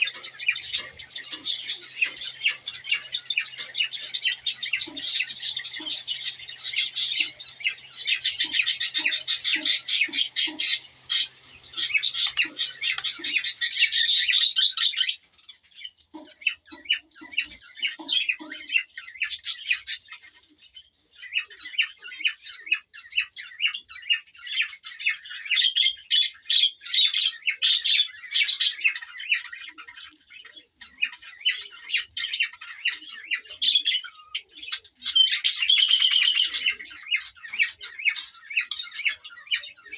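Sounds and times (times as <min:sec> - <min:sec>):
cockatiel warbling song: 0:00.0 - 0:15.2, 0:21.2 - 0:39.9.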